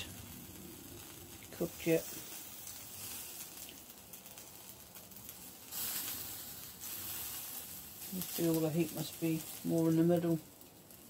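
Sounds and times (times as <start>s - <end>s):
sausages sizzling on a grill: 0.0s - 11.0s.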